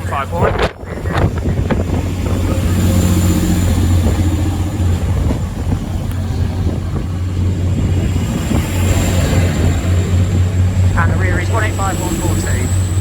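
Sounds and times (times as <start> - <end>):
train diesel engines droning: 0.0 - 13.0.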